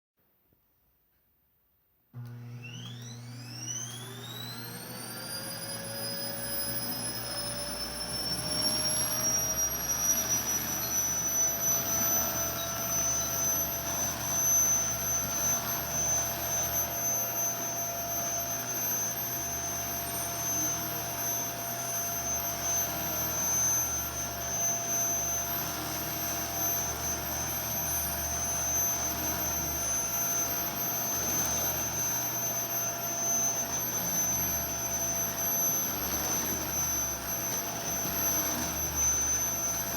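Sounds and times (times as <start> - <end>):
vacuum cleaner motor whining: 2.2 - 39.9.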